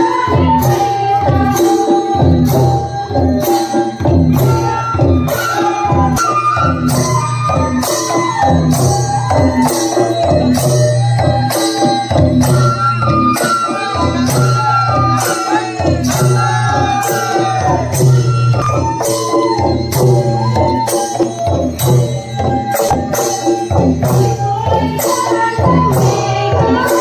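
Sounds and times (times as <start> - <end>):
bamboo flutes melody: 0.0 - 27.0.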